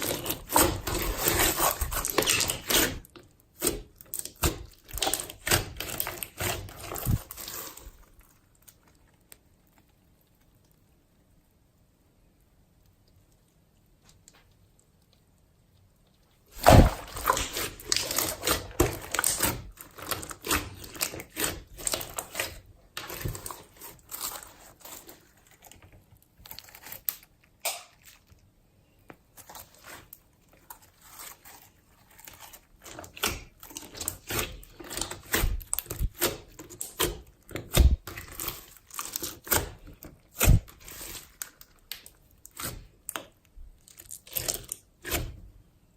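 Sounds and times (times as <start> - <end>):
sticky slime crackling and popping: 0.0 - 10.9, 13.0 - 28.5, 29.3 - 45.4.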